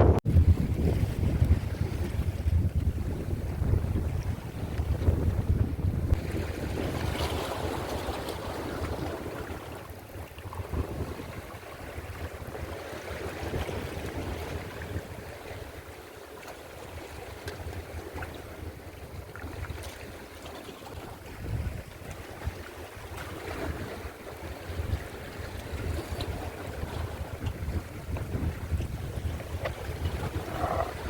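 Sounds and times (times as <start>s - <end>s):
wind buffeting microphone: 0.0s - 16.0s, 16.8s - 31.0s
surf washing: 0.0s - 31.0s.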